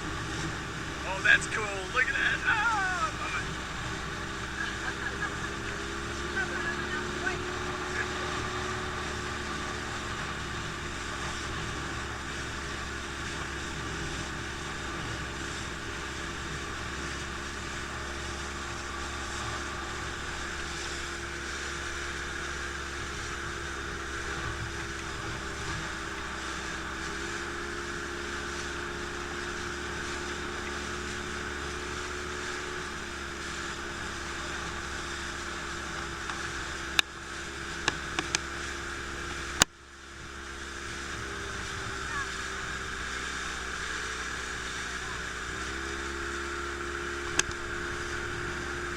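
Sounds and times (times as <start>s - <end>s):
motorboat engine running: 0.0s - 48.9s.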